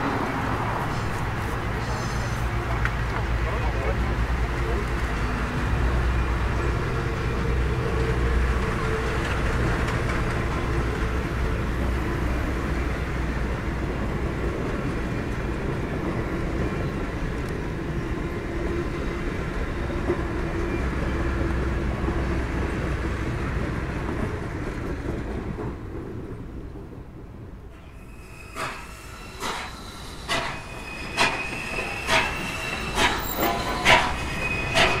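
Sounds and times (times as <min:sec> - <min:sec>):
train cars rolling on rails: 0:00.0 - 0:35.0.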